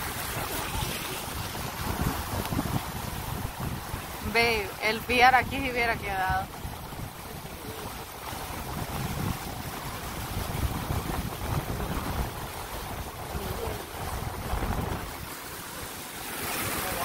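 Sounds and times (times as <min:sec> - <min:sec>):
tyres sloshing through floodwater: 0:00.0 - 0:17.0
wind buffeting microphone: 0:00.0 - 0:17.0.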